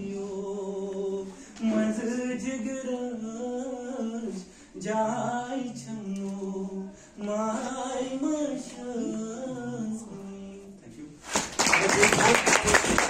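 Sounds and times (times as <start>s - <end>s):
man singing unaccompanied: 0.0s - 10.9s.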